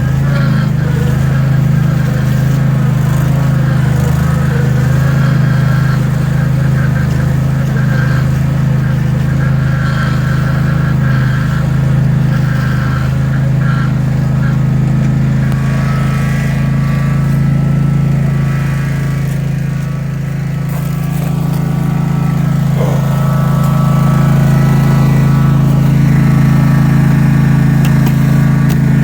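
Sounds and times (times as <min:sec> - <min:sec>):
riding mower engine running: 0:00.0 - 0:29.0.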